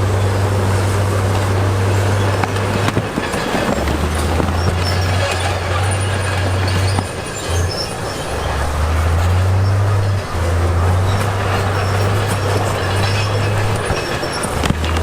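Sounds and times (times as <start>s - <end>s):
diesel engine humming: 0.0s - 15.0s
metallic grinding and clanking: 0.2s - 15.0s.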